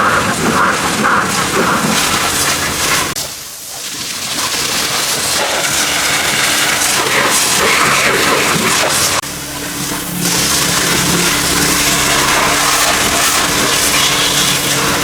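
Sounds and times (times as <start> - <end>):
cleaning tool hissing: 1.3 - 15.0.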